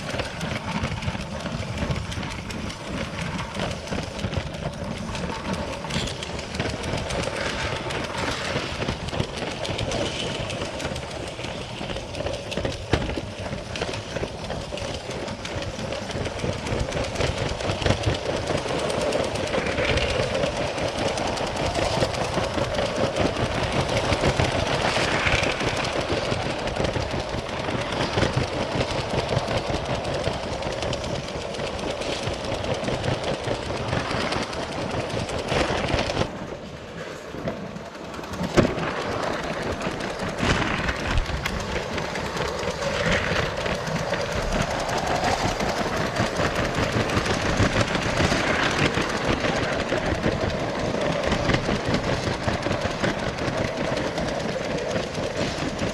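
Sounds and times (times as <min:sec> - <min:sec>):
plastic wheels clattering on track: 0:00.0 - 0:36.4, 0:37.4 - 0:55.9.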